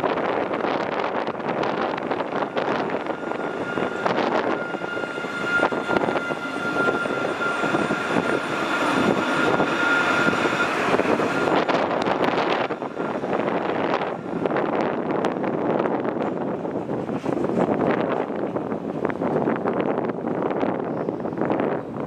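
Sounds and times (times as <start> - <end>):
tram high-pitched whine: 0.0 - 22.0
tram wheels rumbling on rails: 0.0 - 22.0.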